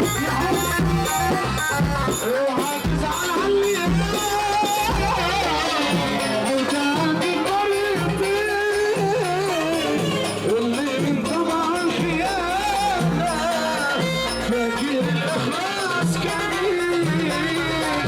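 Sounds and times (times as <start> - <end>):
bass and percussion beat: 0.0 - 18.0.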